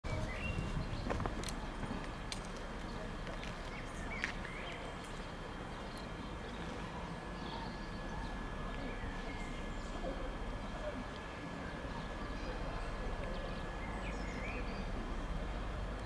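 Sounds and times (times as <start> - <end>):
birds chirping: 0.1 - 15.6.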